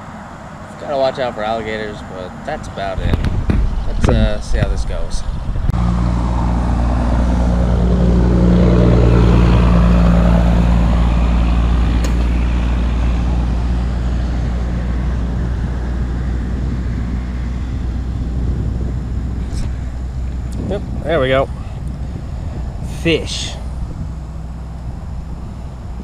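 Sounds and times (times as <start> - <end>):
passing vehicle engine drone: 0.0 - 26.0.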